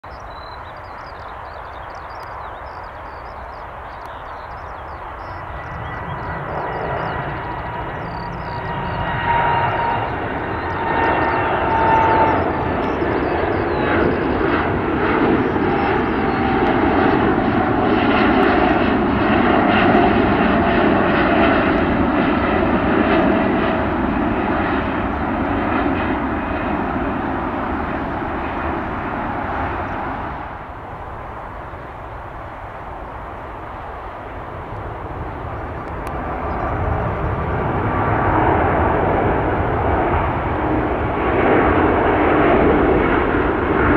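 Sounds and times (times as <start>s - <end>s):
jet engines rumbling: 0.1s - 43.9s.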